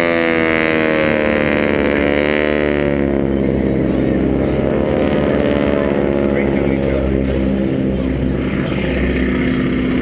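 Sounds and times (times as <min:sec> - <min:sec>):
aircraft engine droning: 0:00.0 - 0:10.0.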